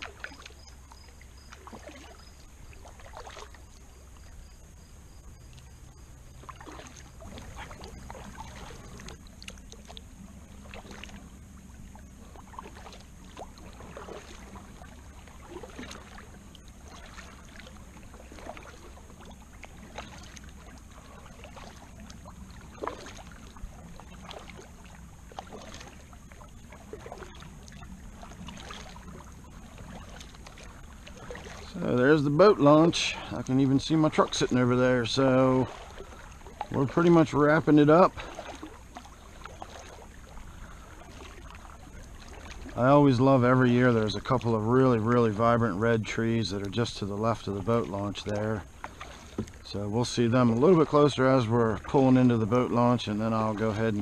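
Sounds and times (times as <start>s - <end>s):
low steady hum: 0.0s - 54.0s
paddle splashing in water: 0.0s - 54.0s.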